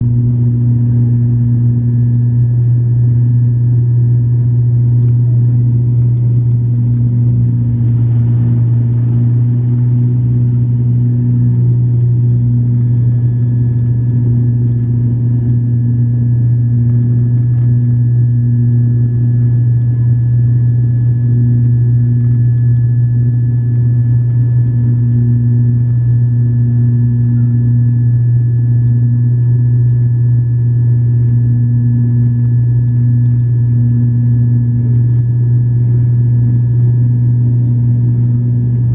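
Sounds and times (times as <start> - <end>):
airliner engines droning: 0.0 - 38.9.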